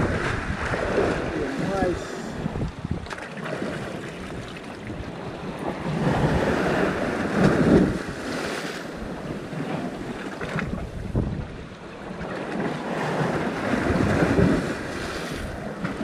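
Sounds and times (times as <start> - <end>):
waves splashing on rocks: 0.0 - 16.0
wind buffeting microphone: 0.0 - 16.0.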